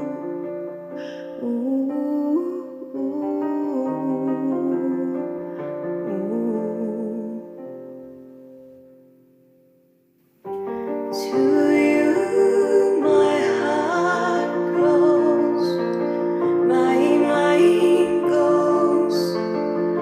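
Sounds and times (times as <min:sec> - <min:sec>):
soft slow music: 0:00.0 - 0:20.0.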